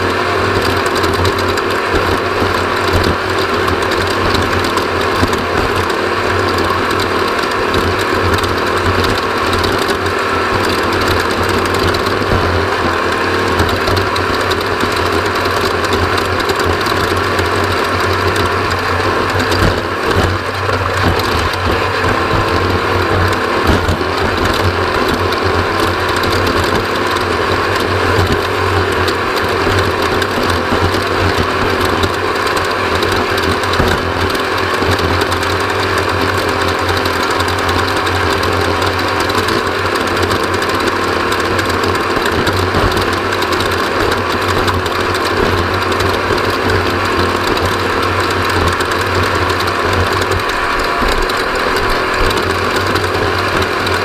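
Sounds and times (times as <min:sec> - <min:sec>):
engine drone: 0:00.0 - 0:54.0
rapid clatter: 0:00.0 - 0:54.0.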